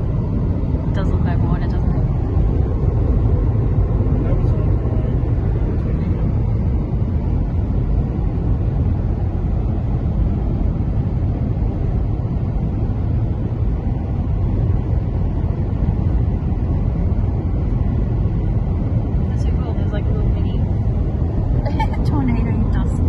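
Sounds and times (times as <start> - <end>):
car cabin road and engine noise: 0.0 - 23.0.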